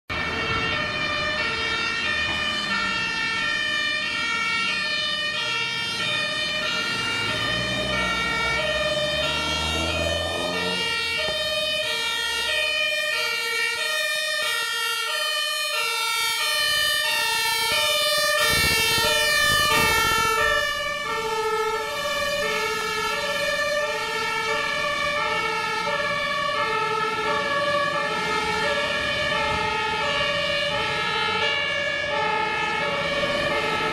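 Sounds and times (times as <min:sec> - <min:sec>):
heavy truck engine rumble: 0:00.1 - 0:13.1, 0:16.7 - 0:33.9
two-tone fire engine sirens: 0:00.1 - 0:33.9
vehicle passing close: 0:00.2 - 0:13.0, 0:17.9 - 0:33.9.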